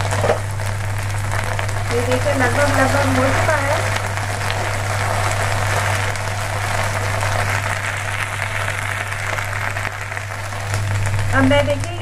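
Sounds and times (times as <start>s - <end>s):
okra sizzling in oil: 0.0s - 12.0s
steady low hum: 0.0s - 12.0s.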